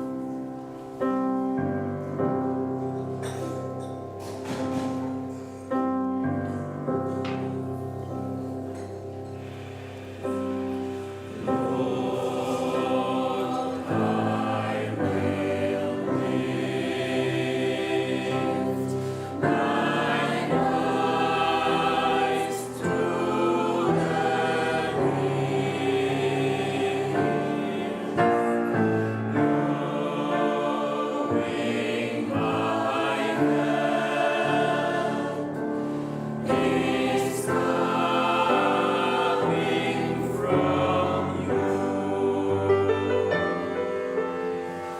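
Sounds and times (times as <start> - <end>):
gospel choir singing: 0.0 - 44.9.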